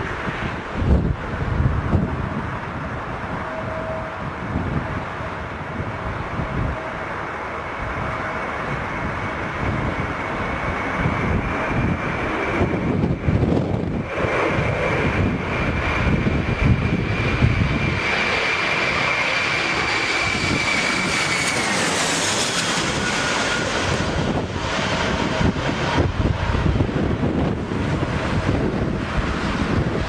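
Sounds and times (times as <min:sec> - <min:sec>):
jet engine whine: 0:00.0 - 0:30.0
wind rumbling on microphone: 0:00.0 - 0:30.0.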